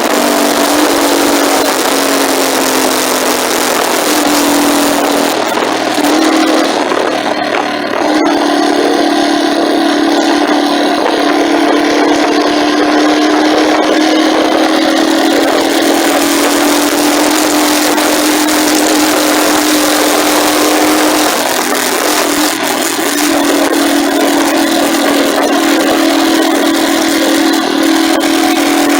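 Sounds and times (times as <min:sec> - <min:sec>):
motorcycle engine cruising: 0:00.0 - 0:28.9
road noise: 0:00.0 - 0:28.9
wind noise: 0:00.0 - 0:28.9.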